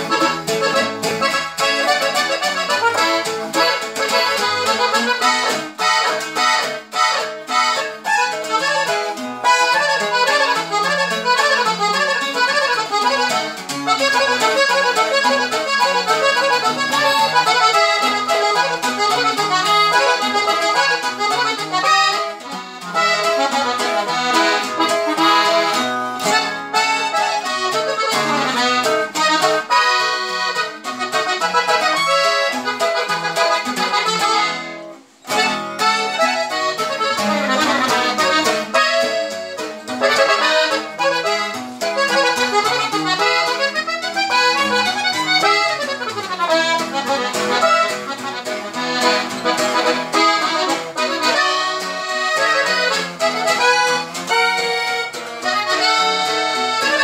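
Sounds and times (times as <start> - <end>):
acoustic guitar strumming: 0.0 - 57.0
button accordion melody: 0.0 - 57.0.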